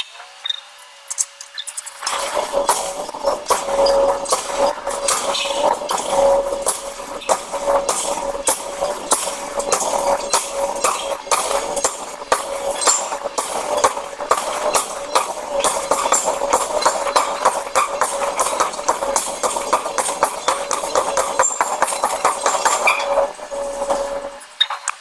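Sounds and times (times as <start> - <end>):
steady machine hum: 1.9 - 24.6
hammer blows on hot iron: 2.0 - 24.4.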